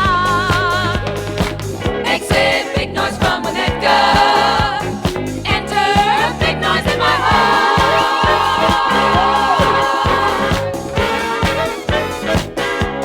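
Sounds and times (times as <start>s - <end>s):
disco music with group vocals: 0.0s - 13.0s.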